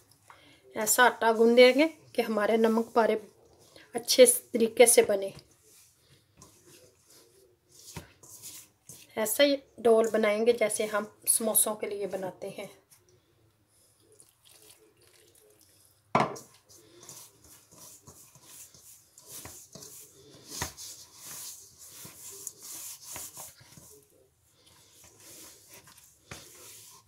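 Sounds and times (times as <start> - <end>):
dough squishing in metal bowl: 0.8 - 13.0, 14.0 - 27.0.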